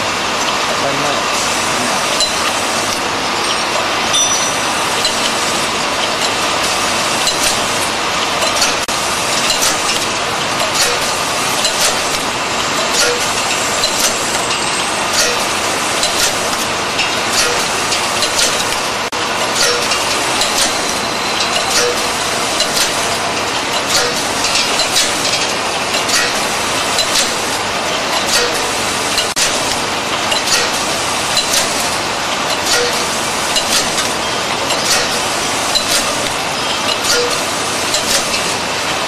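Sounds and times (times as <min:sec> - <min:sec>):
machine clattering: 0:00.3 - 0:39.0.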